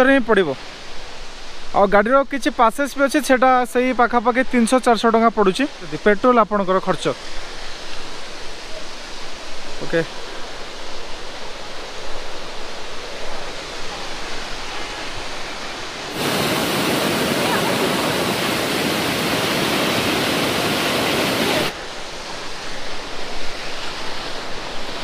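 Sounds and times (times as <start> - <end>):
water rushing: 0.0 - 25.0
waterfall roaring: 4.6 - 25.0.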